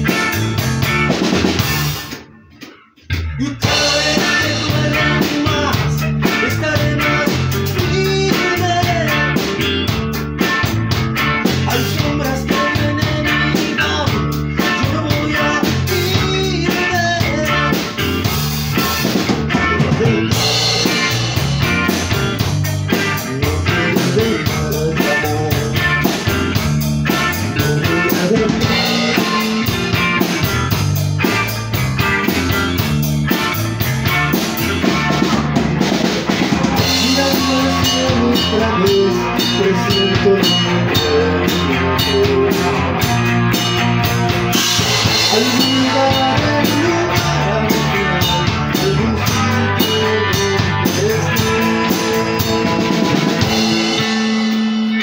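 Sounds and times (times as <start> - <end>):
bass guitar: 0.0 - 55.0
drum kit beat: 0.0 - 55.0
electric guitars: 0.0 - 55.0.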